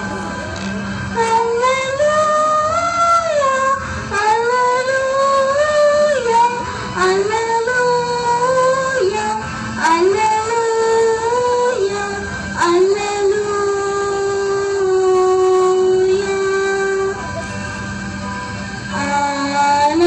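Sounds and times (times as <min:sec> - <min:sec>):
high voice singing slow melody: 0:00.0 - 0:17.4, 0:18.9 - 0:20.0.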